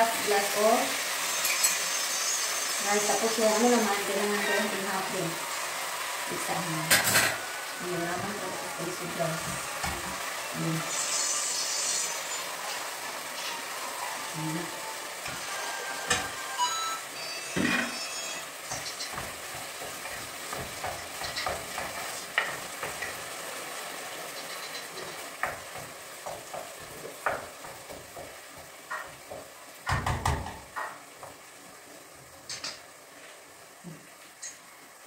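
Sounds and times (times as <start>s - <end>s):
sizzling hiss: 0.0s - 35.0s.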